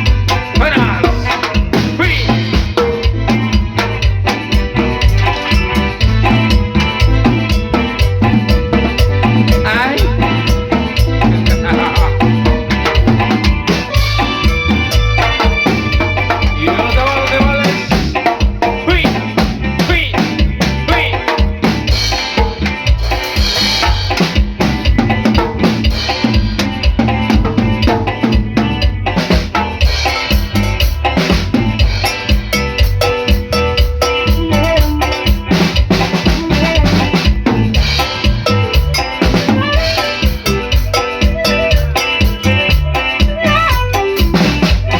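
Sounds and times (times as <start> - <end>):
bass line: 0.0 - 44.9
music with drum kit beat: 0.0 - 44.9.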